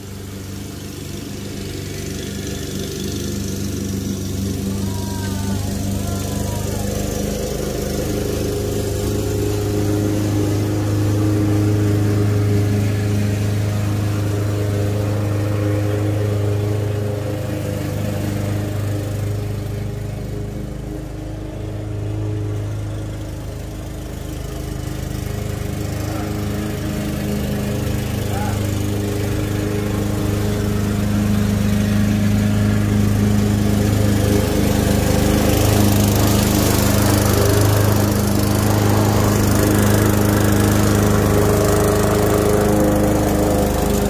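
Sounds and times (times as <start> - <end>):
lawn mower running: 0.0 - 44.0.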